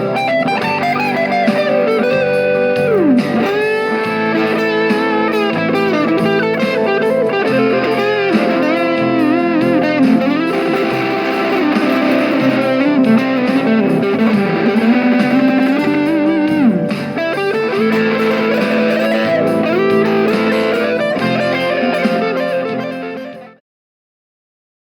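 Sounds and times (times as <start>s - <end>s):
electric guitar lead line: 0.0s - 23.6s
ringing guitar chord: 0.0s - 23.6s.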